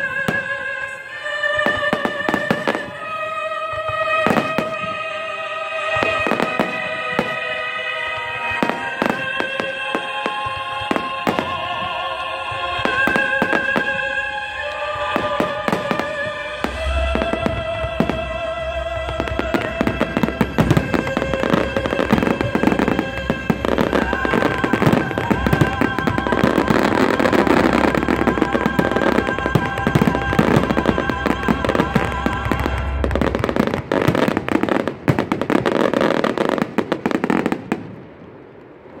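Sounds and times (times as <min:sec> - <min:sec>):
music playing: 0:00.0 - 0:36.5
fireworks bursting and crackling: 0:00.0 - 0:39.0.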